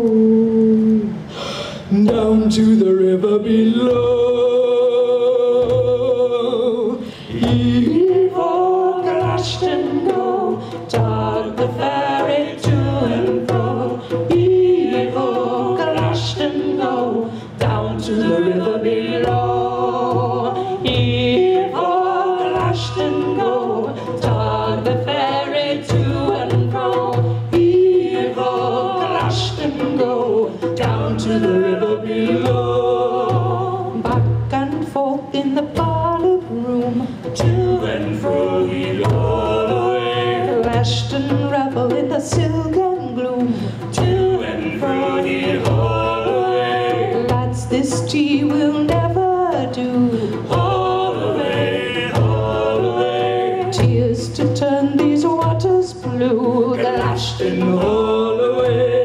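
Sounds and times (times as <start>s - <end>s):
voices singing together: 0.0s - 59.0s
hand drums beating: 1.9s - 59.0s.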